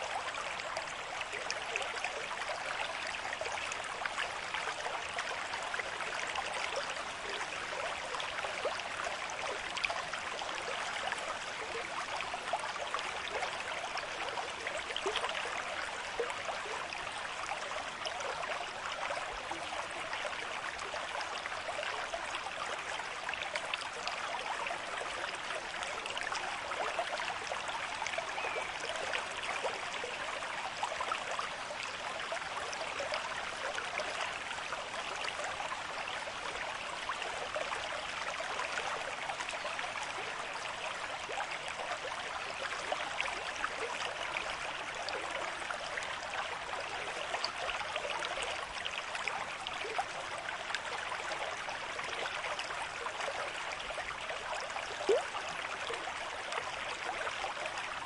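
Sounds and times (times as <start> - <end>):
water babbling over stones: 0.0 - 58.0.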